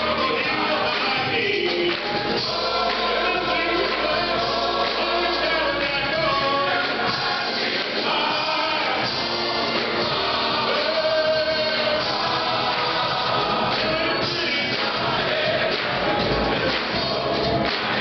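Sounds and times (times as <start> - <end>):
male gospel chorus singing: 0.0 - 18.0.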